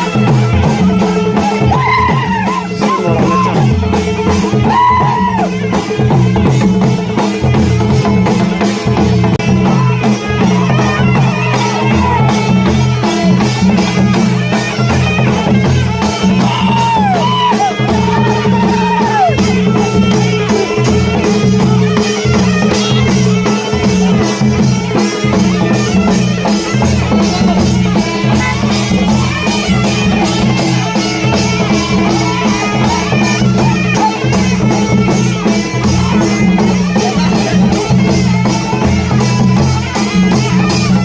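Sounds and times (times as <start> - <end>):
drums beating fast rhythm: 0.0 - 41.0
wind instrument wavering melody: 0.0 - 41.0.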